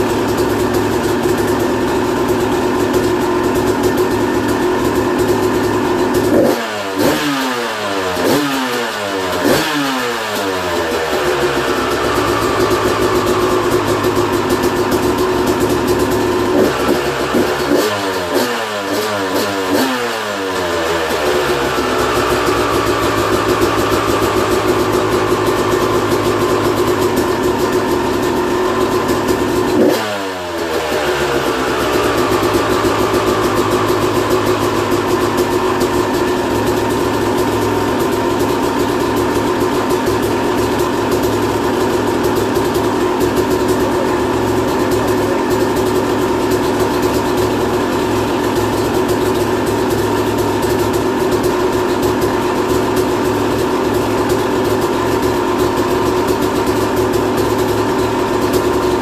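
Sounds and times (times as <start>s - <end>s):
two-stroke engine idling: 0.0s - 59.0s.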